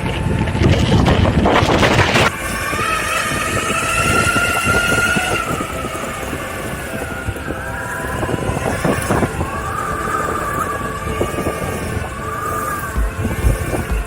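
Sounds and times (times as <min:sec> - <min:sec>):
electric motors whining: 0:00.0 - 0:14.0
tyres rolling rumble: 0:00.0 - 0:14.0.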